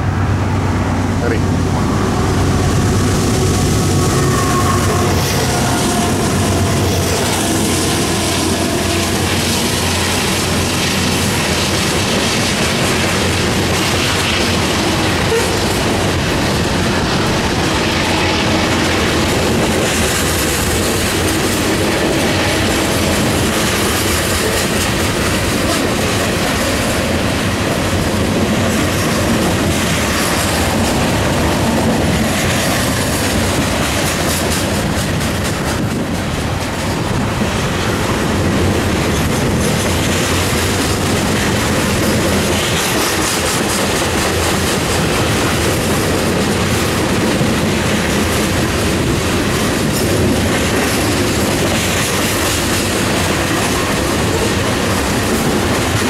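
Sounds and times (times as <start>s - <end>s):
diesel locomotives passing: 0.0s - 56.0s
train wheels rumbling on rail: 0.0s - 56.0s.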